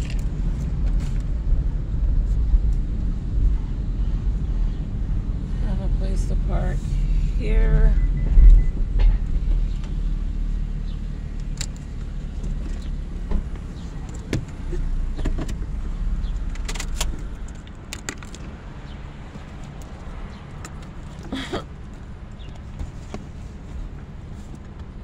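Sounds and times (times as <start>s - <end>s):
car engine running low: 0.0s - 25.0s.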